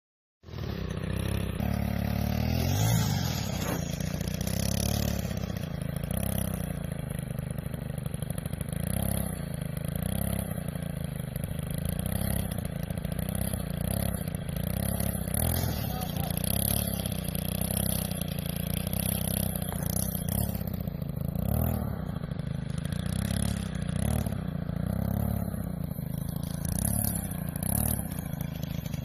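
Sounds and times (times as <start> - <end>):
engine running: 0.4 - 29.0.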